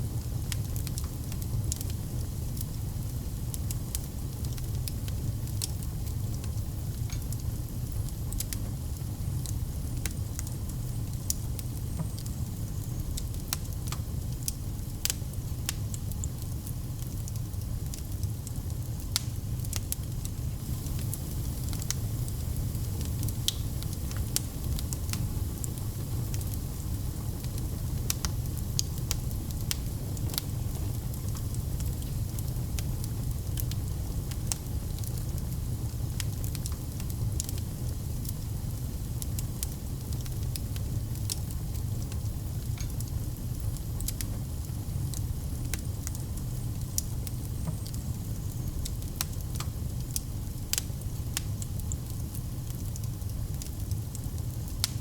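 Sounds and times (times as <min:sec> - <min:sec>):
fire crackling and popping: 0:00.0 - 0:55.0
low rumble of burning: 0:00.0 - 0:55.0.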